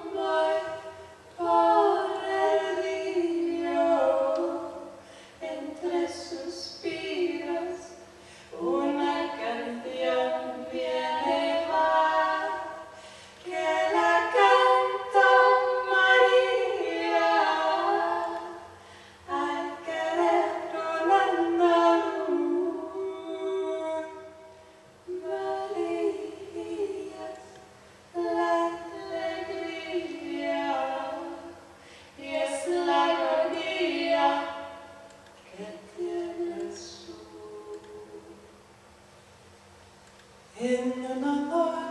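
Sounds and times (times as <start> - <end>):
women singing a cappella: 0.0 - 38.6, 40.5 - 41.9
faint steady hum: 0.0 - 41.9.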